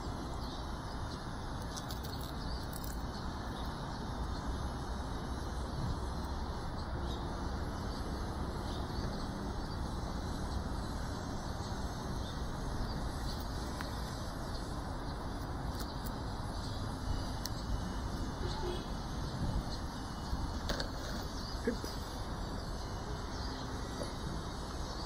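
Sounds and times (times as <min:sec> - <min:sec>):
distant traffic hum: 0:00.0 - 0:25.0.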